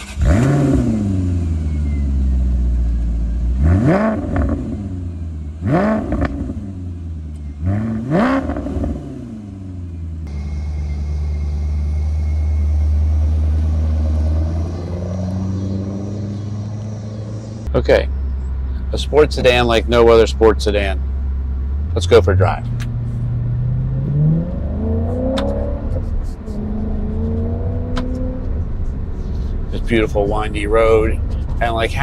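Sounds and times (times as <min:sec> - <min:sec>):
car engine idling: 0:00.0 - 0:08.2, 0:08.8 - 0:32.0
car engine starting and revving: 0:00.0 - 0:32.0
engine throttle blips: 0:00.0 - 0:32.0.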